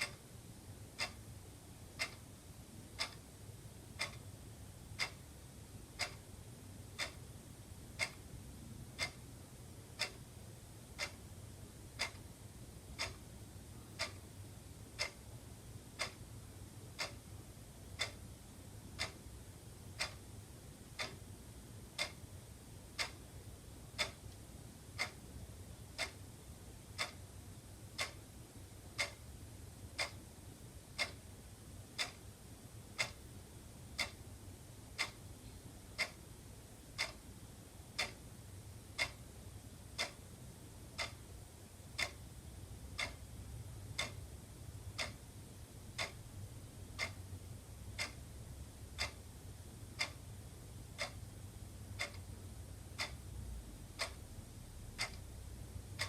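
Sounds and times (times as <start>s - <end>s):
faint low hum: 0.0s - 56.0s
wall clock ticking: 0.0s - 56.0s.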